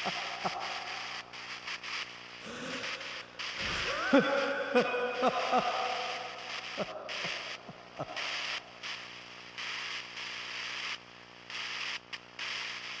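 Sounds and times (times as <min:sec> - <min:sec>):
static-like hiss: 0:00.0 - 0:13.0.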